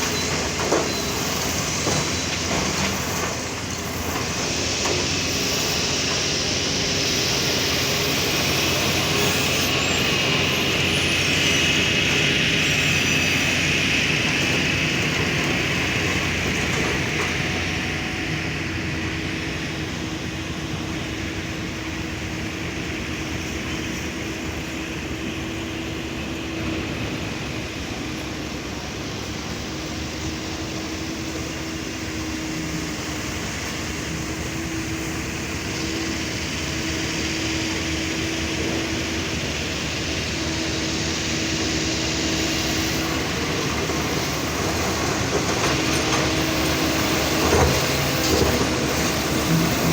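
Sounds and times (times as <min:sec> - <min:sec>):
heavy diesel engine droning: 0:00.0 - 0:49.9.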